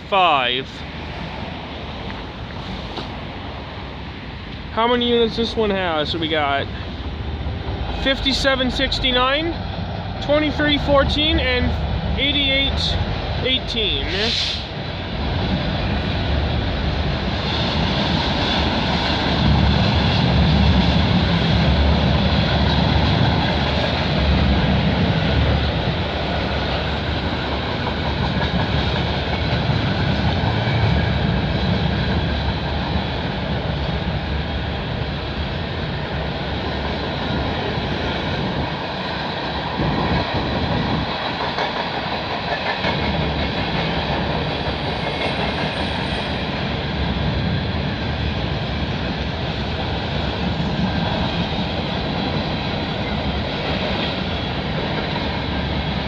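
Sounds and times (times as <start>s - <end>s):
freight train passing: 0.0s - 56.0s
train wheels on rails: 0.0s - 56.0s.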